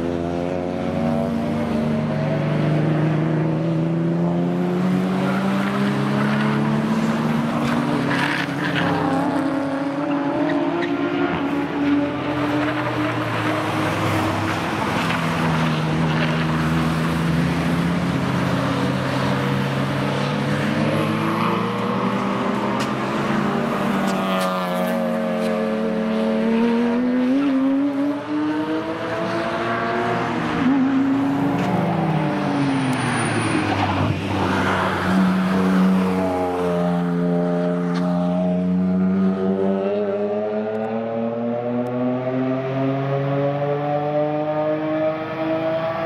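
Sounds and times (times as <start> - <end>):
cars racing past at high revs: 0.0 - 46.0.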